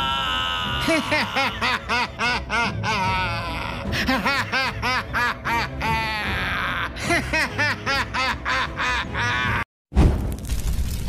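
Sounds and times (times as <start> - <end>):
maniacal laughing: 0.0 - 9.7.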